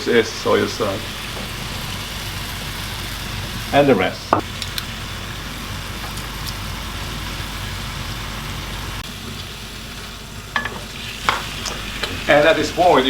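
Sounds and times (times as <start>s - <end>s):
sauce bubbling and sizzling in a saucepan: 0.0s - 13.0s.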